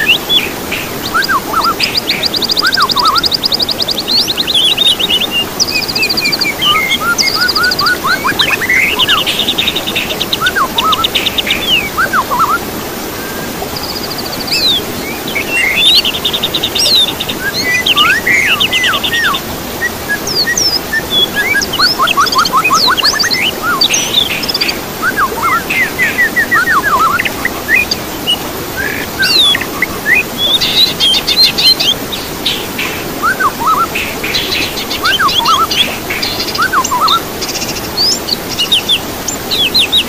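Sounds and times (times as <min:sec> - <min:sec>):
songbirds singing: 0:00.0 - 0:40.0
steady background hiss: 0:00.0 - 0:40.0.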